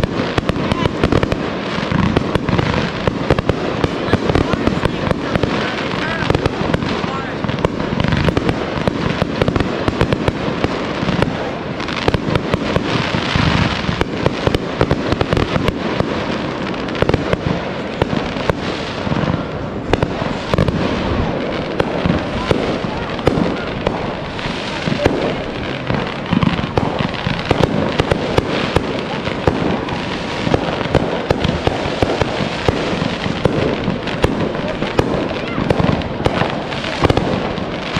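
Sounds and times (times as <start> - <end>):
fireworks popping and crackling: 0.0 - 37.9.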